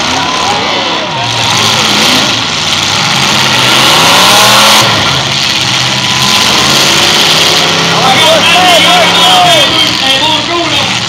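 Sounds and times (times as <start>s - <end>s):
car engines revving hard: 0.0s - 11.0s.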